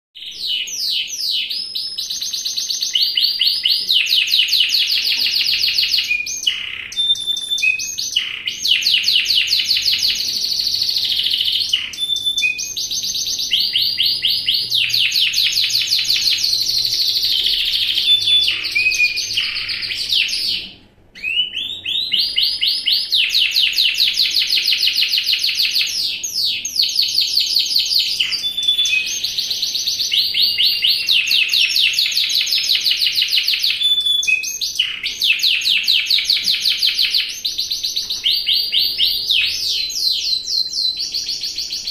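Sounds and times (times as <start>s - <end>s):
canary singing rolling trills: 0.2s - 41.9s.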